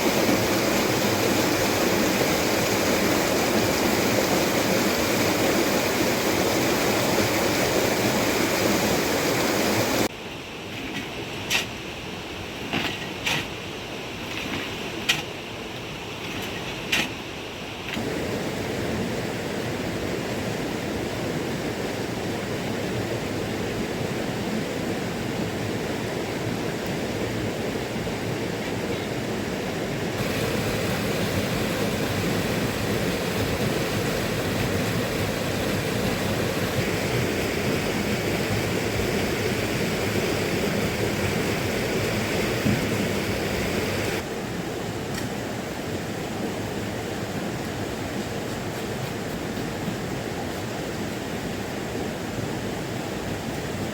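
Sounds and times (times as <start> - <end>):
rushing water: 0.0 - 10.1, 10.7 - 53.9.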